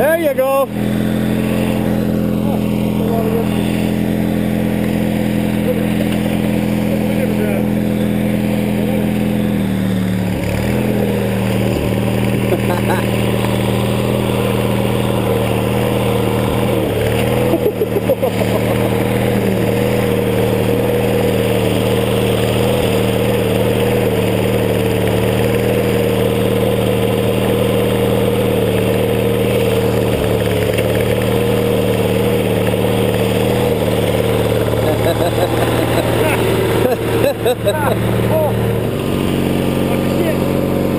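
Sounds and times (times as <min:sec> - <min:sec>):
lawn tractor engine running: 0:00.0 - 0:40.9.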